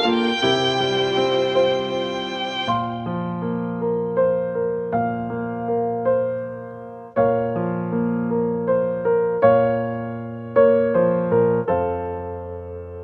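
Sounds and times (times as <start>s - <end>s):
soft electric piano melody: 0.0s - 13.0s.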